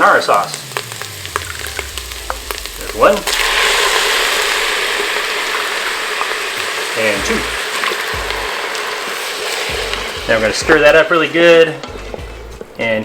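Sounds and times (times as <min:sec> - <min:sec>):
meat sauce sizzling: 0:00.0 - 0:13.0.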